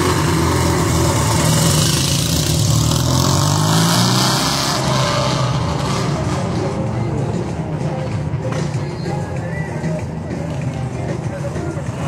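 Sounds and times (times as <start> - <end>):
motorcycles accelerating: 0.0 - 12.0.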